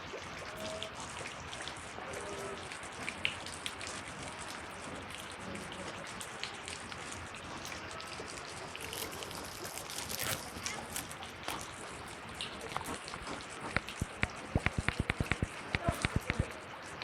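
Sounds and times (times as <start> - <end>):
flood water rushing: 0.0 - 17.0
rain pattering on surfaces: 0.0 - 17.0.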